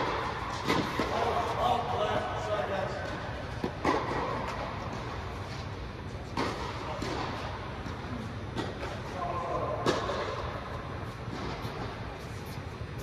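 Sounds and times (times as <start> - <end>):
tennis balls struck by rackets: 0.0 - 1.6, 3.0 - 12.3.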